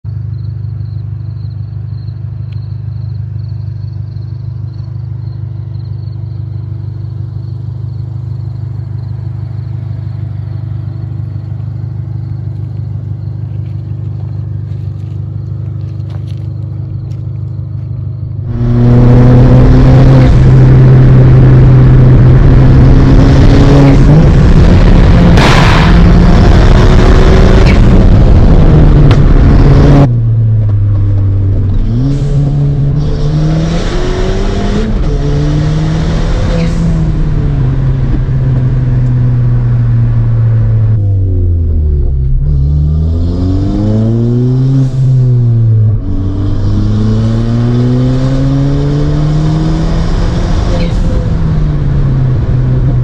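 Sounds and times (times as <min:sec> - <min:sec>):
car engine revving: 0:00.7 - 0:53.0.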